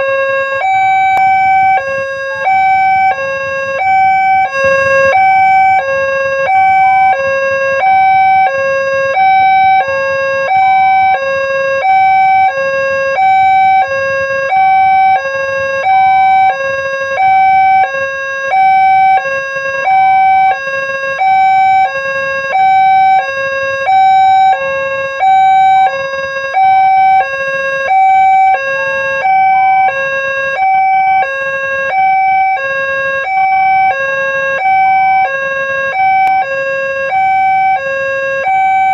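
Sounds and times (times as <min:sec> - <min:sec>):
level crossing two-tone alarm: 0:00.0 - 0:38.9.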